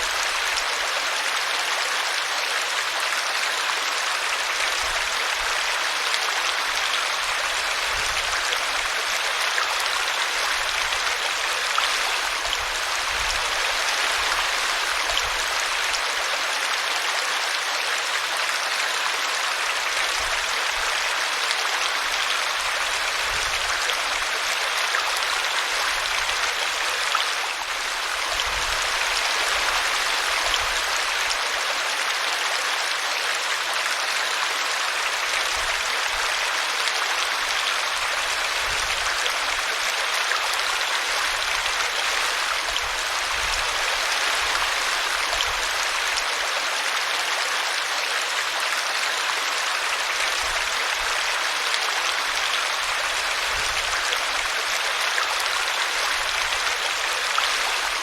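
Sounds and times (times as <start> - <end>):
brook water rushing: 0.0 - 58.0.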